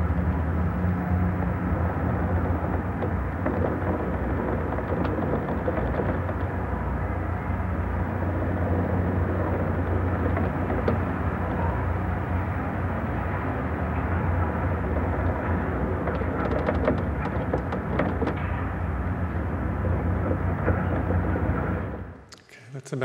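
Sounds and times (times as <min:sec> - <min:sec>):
low rumble and rush: 0:00.0 - 0:22.2.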